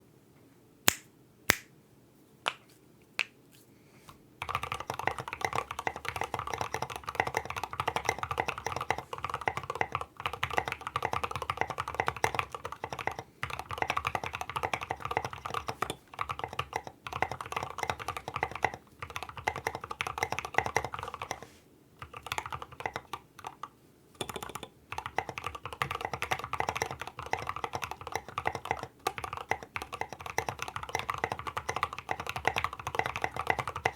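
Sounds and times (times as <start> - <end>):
mechanical keyboard typing: 4.4 - 21.4, 22.0 - 33.9.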